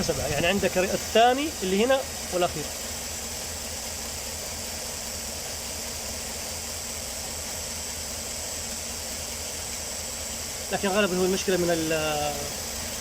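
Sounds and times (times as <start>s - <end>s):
misfiring engine idling: 0.0s - 13.0s.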